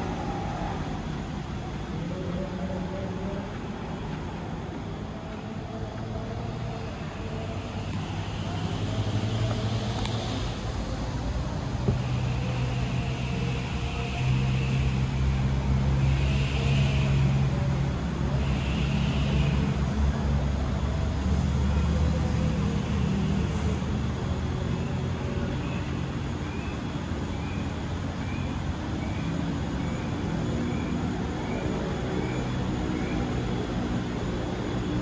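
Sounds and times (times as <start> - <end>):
vehicle engine hum: 0.0 - 35.0.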